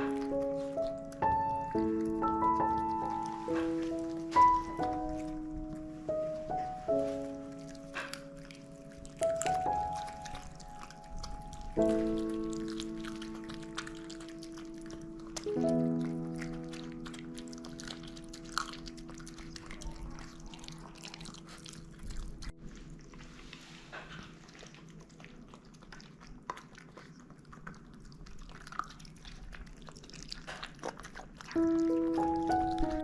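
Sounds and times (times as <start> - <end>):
held background music notes: 0.0 - 25.2, 31.5 - 33.0
small dog chewing and crunching: 0.0 - 33.0.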